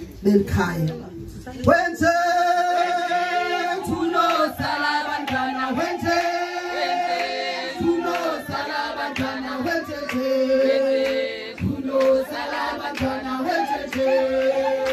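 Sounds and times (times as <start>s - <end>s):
group singing in harmony: 1.7s - 14.9s.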